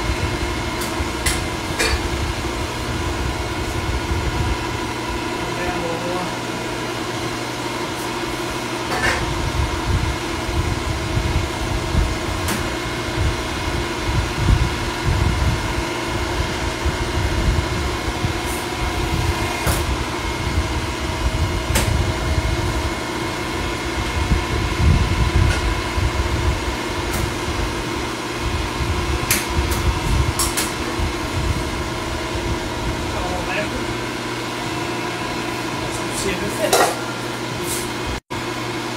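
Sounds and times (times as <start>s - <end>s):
pipe bender machine hum: 0.0s - 38.9s.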